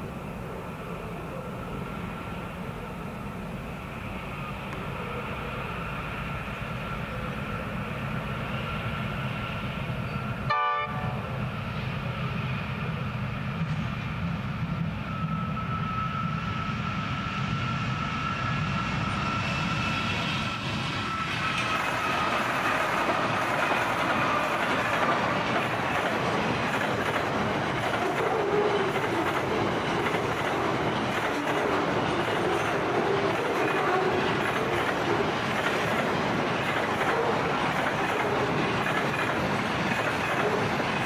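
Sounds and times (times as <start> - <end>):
diesel locomotive engine drone: 0.0 - 41.0
locomotive high whine: 0.0 - 41.0
train wheels rumbling on rails: 0.0 - 41.0.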